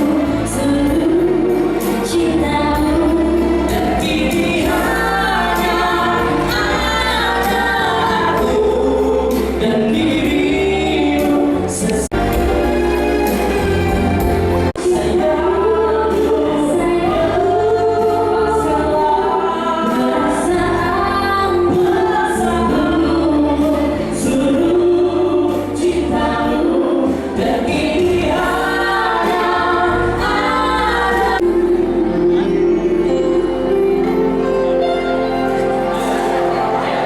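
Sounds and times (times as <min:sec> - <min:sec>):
slow song with held sung notes: 0:00.0 - 0:12.4, 0:14.6 - 0:37.0.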